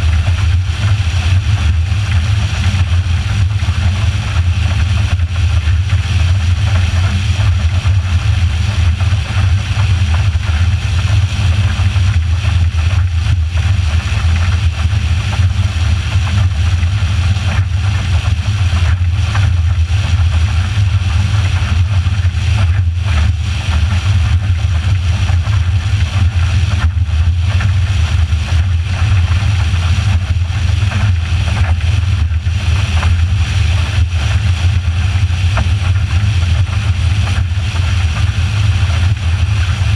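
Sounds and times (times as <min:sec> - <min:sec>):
motorboat engine rumble: 0:00.0 - 0:39.9.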